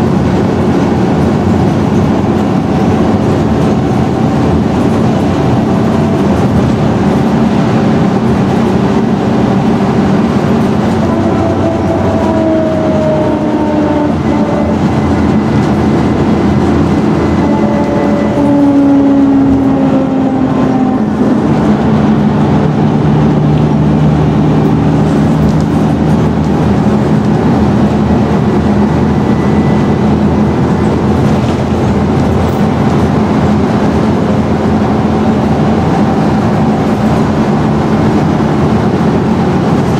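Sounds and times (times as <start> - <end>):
bus engine and driveline whine: 0.0 - 39.9
road noise: 0.0 - 39.9.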